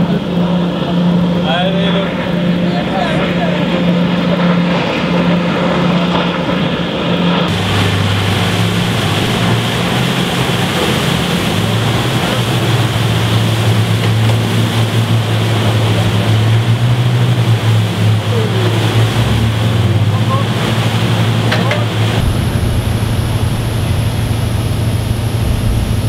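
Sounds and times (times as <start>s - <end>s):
motorboat engine: 0.0s - 26.0s
water rushing and splashing: 0.0s - 26.0s
wind on microphone: 0.0s - 26.0s.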